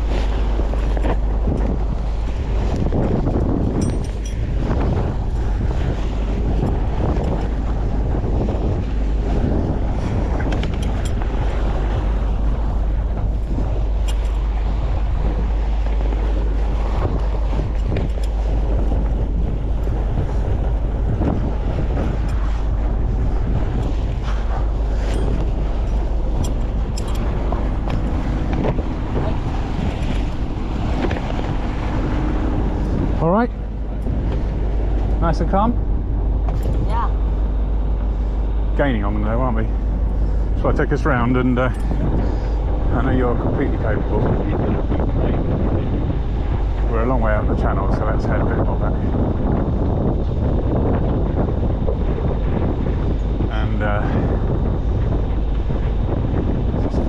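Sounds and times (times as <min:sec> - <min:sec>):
boat engine running: 0:00.0 - 0:57.0
water washing past hull: 0:00.0 - 0:57.0
wind buffeting microphone: 0:00.0 - 0:57.0.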